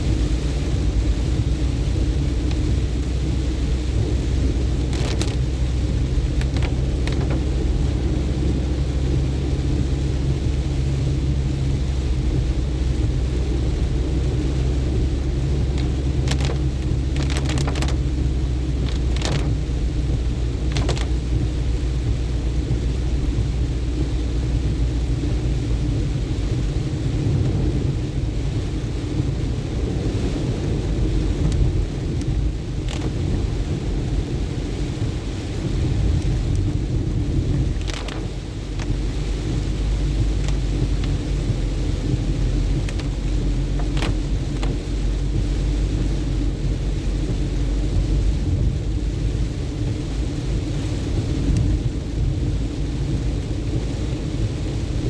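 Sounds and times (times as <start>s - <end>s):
rain hiss: 0.0s - 55.0s
vehicle engine and road noise: 0.0s - 55.0s.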